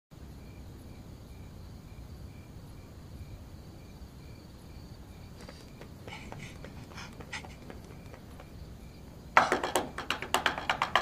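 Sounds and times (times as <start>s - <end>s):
crickets chirping: 0.2s - 11.0s.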